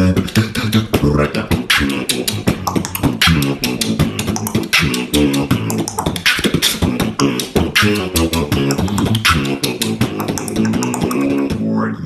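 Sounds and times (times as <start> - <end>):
beatboxing: 0.0 - 12.0.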